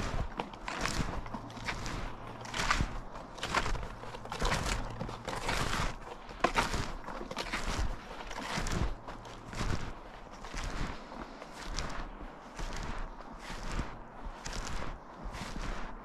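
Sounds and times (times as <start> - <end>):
snowshoes crunching snow: 0.0 - 16.0.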